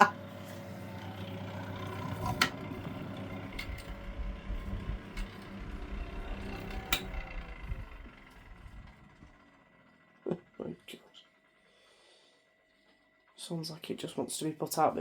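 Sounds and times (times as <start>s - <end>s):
fan motor humming and rattling: 0.0s - 15.0s.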